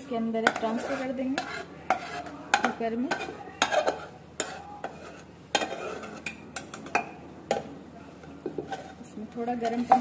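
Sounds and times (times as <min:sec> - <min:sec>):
metal spatula scraping a pan: 0:00.2 - 0:07.0, 0:08.6 - 0:10.0.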